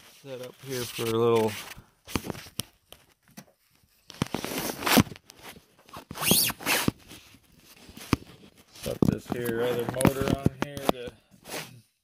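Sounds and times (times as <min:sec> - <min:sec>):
rustling scrapes: 0:00.0 - 0:02.5, 0:03.9 - 0:10.6, 0:11.4 - 0:11.9.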